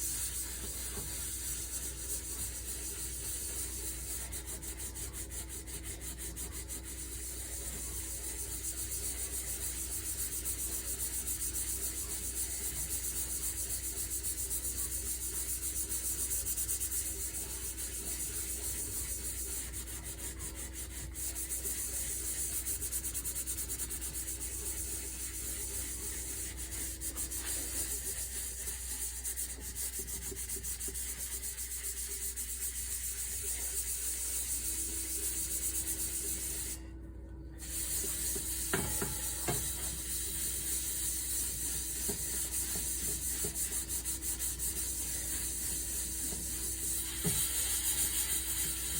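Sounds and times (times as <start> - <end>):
pan being scrubbed: 0.0 - 36.8, 37.6 - 48.9.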